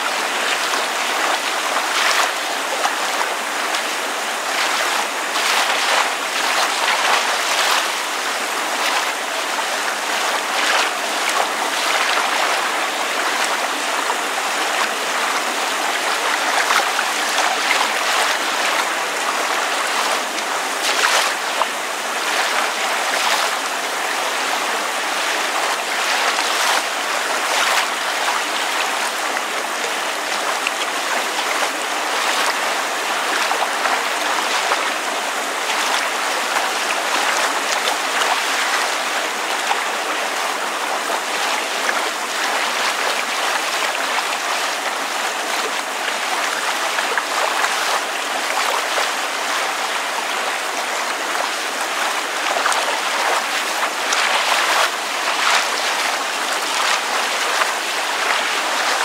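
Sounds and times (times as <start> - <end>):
water lapping: 0.0 - 59.0.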